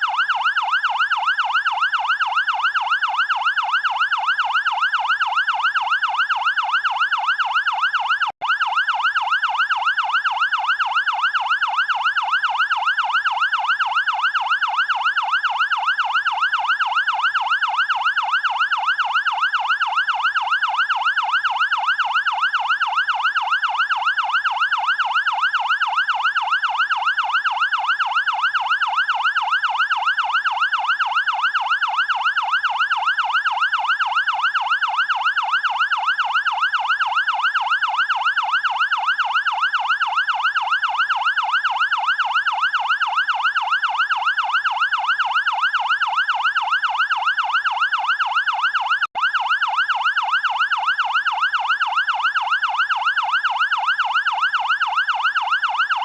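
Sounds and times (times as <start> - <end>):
fire engine siren yelp: 0.0 - 56.0.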